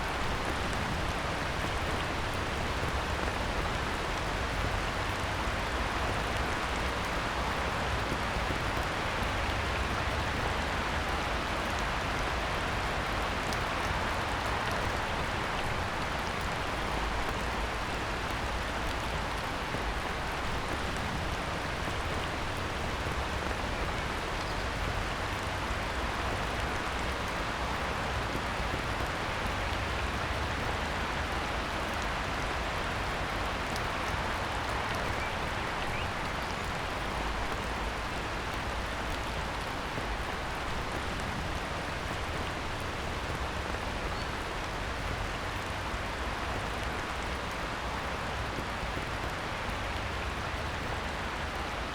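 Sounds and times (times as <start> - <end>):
heavy rain on a pond: 0.0 - 51.9.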